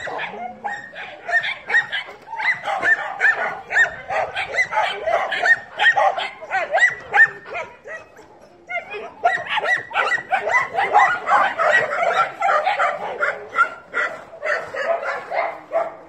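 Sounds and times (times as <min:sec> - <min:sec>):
dogs barking and yipping: 0:00.0 - 0:16.0.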